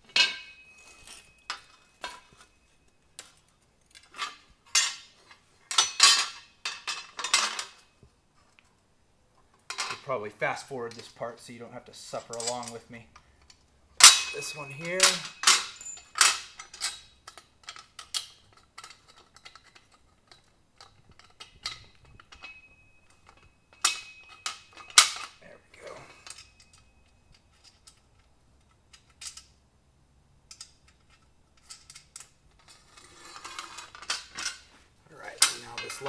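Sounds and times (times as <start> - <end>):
metal bolts clinking: 0.0 - 8.0, 9.6 - 10.2, 12.1 - 29.6, 30.4 - 36.0.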